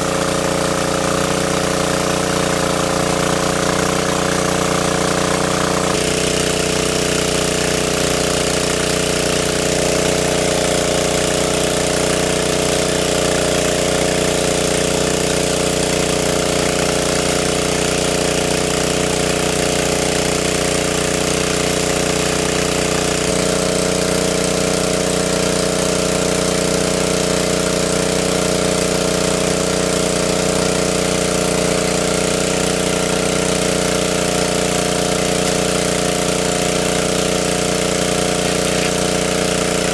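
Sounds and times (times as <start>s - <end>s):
small engine droning: 0.0s - 39.9s.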